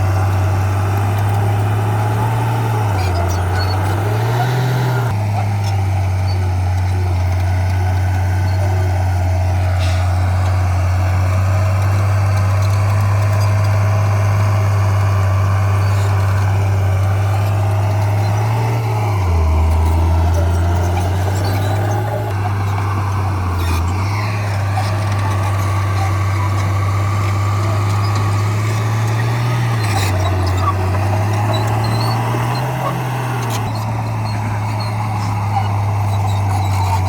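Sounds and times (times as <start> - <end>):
heavy diesel engine rumbling: 0.0 - 37.0.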